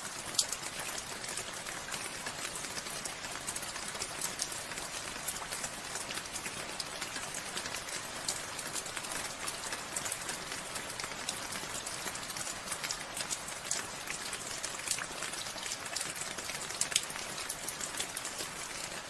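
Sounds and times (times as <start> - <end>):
raindrops ticking on surfaces: 0.0 - 19.0.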